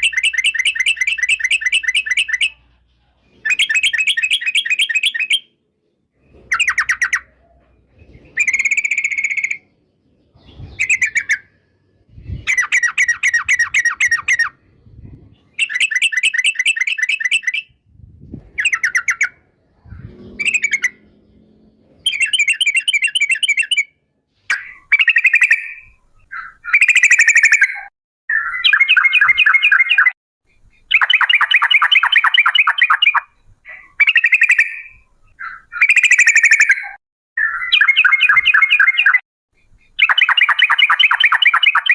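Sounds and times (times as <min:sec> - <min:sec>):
bird chattering song: 0:00.0 - 0:05.6, 0:06.3 - 0:17.8, 0:18.6 - 0:41.9.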